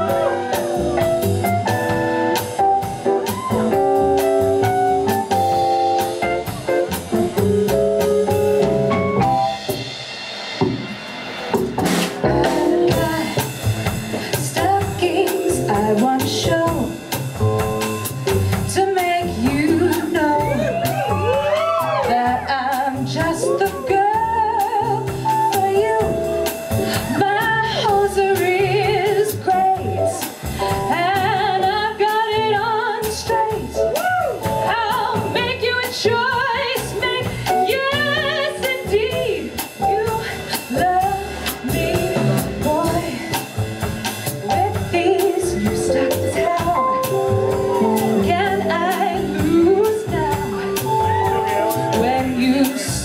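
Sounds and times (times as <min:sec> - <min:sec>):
upright double bass: 0:00.0 - 0:09.9, 0:11.6 - 0:53.0
drum kit: 0:00.0 - 0:53.0
jazz combo playing swing: 0:00.0 - 0:53.0.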